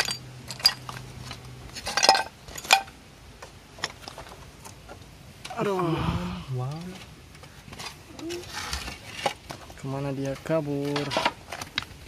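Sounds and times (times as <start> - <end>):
clay roof tiles clinking and scraping: 0.0 - 5.6, 6.6 - 12.0.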